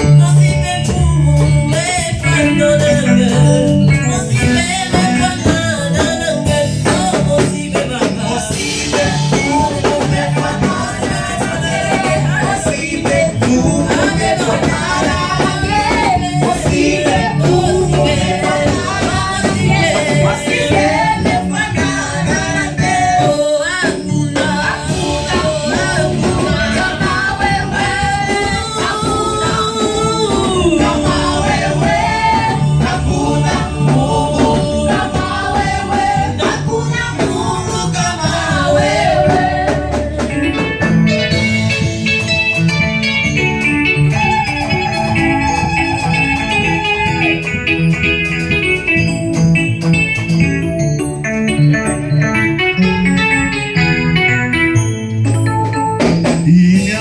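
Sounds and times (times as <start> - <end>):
voices singing gospel: 0.0 - 42.0, 43.3 - 49.2, 56.2 - 57.0
drums beating: 0.0 - 50.7
guitar: 0.0 - 57.0.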